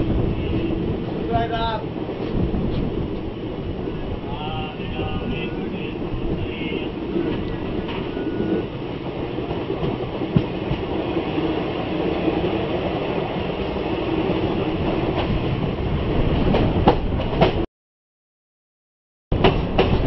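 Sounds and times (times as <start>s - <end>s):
train wheels rumbling on track: 0.0s - 17.7s, 19.3s - 20.0s.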